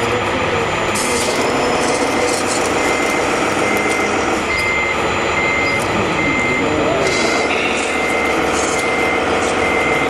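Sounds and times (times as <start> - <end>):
high reversing beeps: 1.2 - 10.0.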